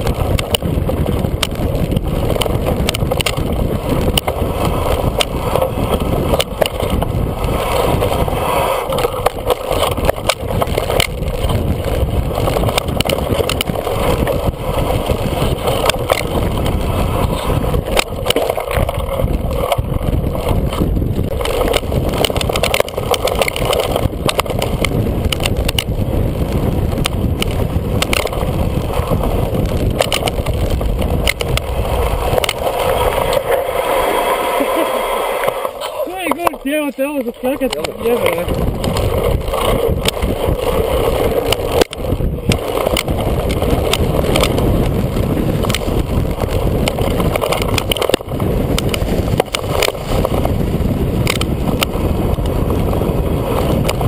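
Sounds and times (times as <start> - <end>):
bike knocking and rattling: 0.0 - 54.0
bike tyre rumble: 0.0 - 54.0
wind buffeting microphone: 0.0 - 54.0.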